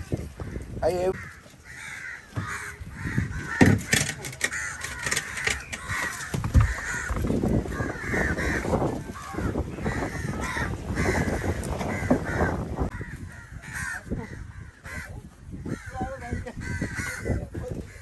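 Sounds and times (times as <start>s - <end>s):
crows cawing: 0.3s - 18.0s.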